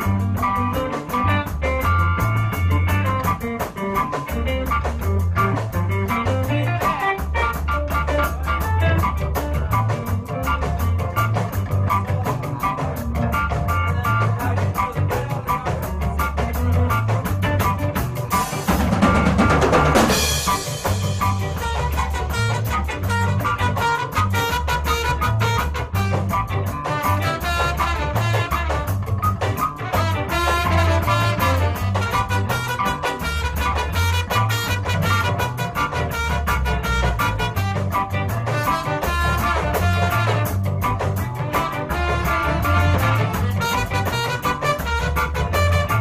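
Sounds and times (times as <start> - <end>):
bass drum: 0.0 - 46.0
bass line: 0.0 - 46.0
ska band music: 0.0 - 46.0.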